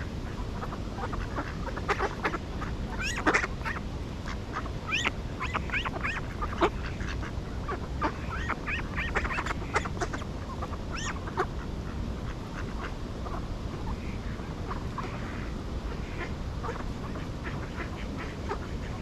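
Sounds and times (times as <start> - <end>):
ducks quacking: 0.0 - 19.0
steady background hiss: 0.0 - 19.0.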